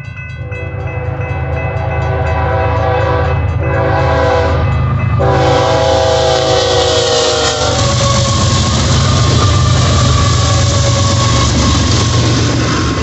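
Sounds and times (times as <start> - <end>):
crossing bell ringing: 0.0 - 11.8
diesel locomotives rumbling: 0.0 - 13.0
freight car wheel and rail noise: 0.0 - 13.0
train air horn: 0.4 - 11.6.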